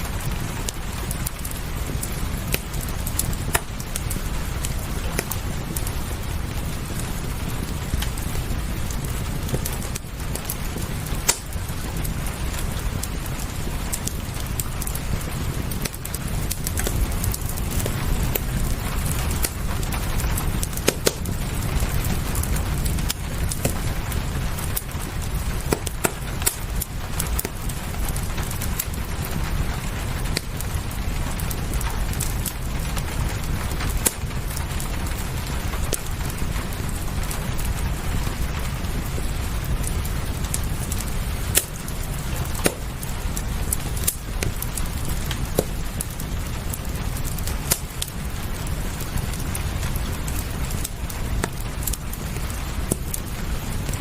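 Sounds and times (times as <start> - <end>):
fireplace crackling and popping: 0.0 - 54.0
low fire rumble: 0.0 - 54.0
rain hiss: 0.0 - 54.0.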